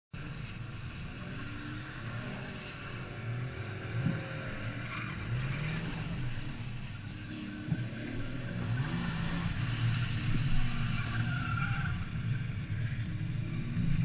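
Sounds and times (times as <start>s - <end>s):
car engine revving: 0.2s - 14.0s.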